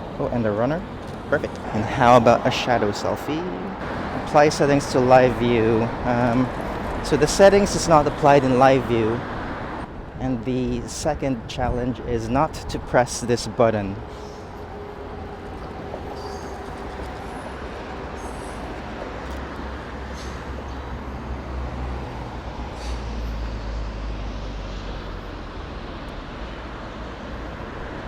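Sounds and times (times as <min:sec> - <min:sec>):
low vehicle rumble: 0:00.0 - 0:28.0
traffic hiss: 0:00.0 - 0:28.0.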